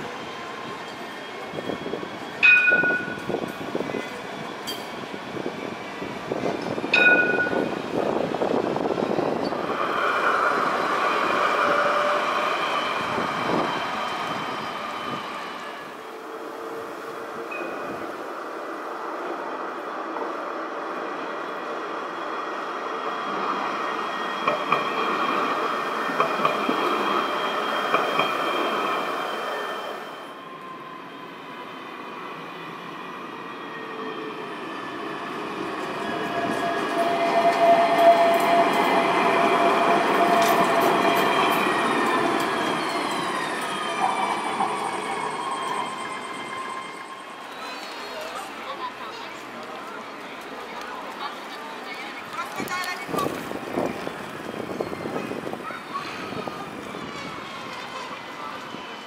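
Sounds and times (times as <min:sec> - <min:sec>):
tram wheels rumbling on rails: 0:00.0 - 0:59.0.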